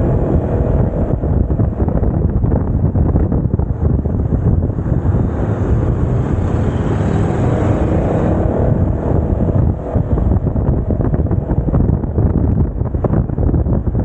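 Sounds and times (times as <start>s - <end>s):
scooter engine and road rumble: 0.0s - 14.0s
wind buffeting microphone: 0.0s - 14.0s.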